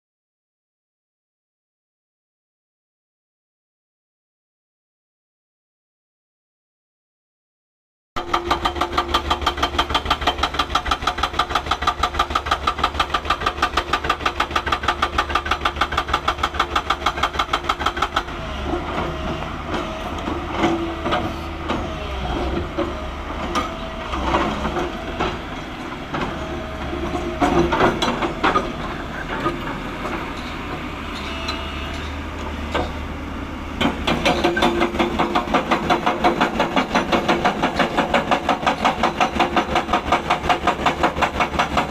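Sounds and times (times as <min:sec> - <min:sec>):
diesel engine chugging: 0:08.2 - 0:41.9.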